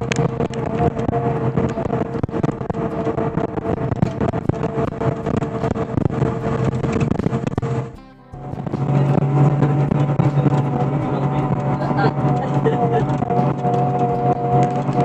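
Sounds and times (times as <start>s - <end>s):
engine and road drone: 0.0s - 15.0s
humming tone: 0.0s - 15.0s.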